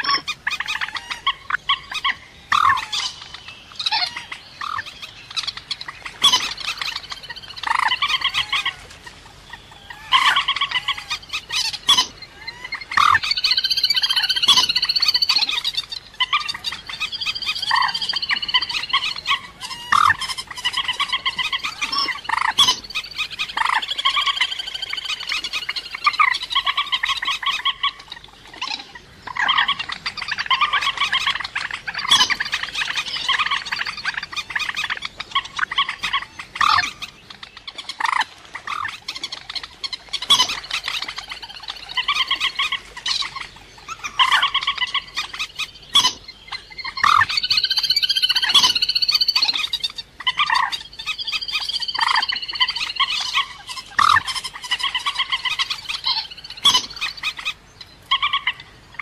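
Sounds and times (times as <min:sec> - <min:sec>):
rapid pulsed bird calls: 0:00.0 - 0:59.0.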